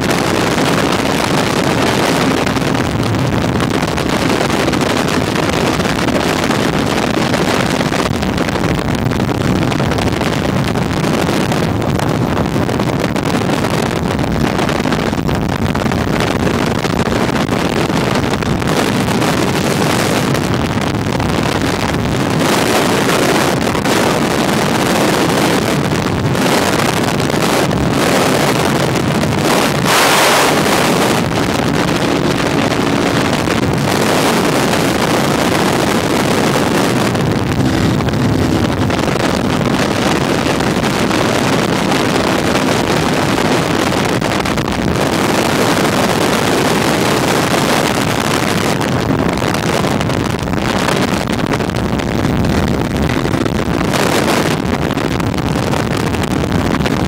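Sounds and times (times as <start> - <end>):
motorcycle engine running: 0.0 - 57.0
wind rush buffeting microphone: 0.0 - 57.0.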